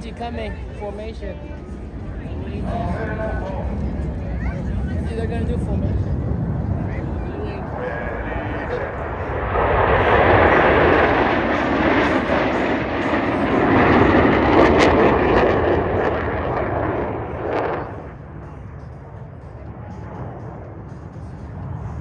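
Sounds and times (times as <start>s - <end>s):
jet roar: 0.0s - 22.0s.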